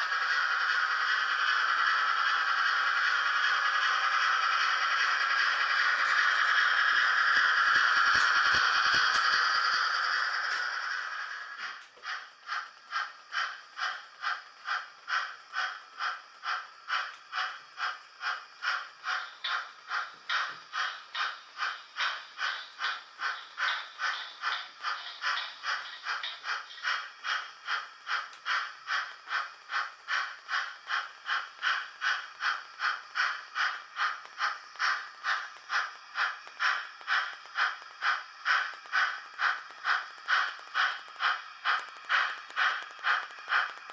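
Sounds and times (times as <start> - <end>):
model steam locomotive chuffing: 0.0 - 43.9.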